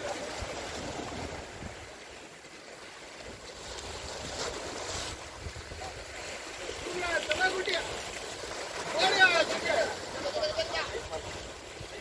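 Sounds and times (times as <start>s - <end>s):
waves breaking over rocks: 0.0s - 12.0s.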